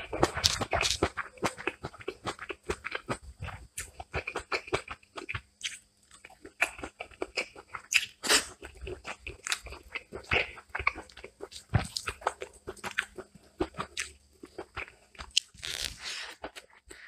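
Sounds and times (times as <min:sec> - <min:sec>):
person chewing and biting food: 0:00.0 - 0:17.0.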